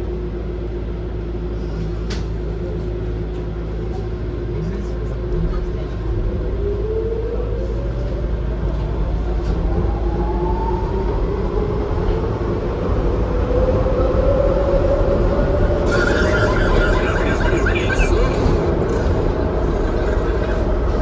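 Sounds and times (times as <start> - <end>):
wheels rumbling on track: 0.0 - 21.0.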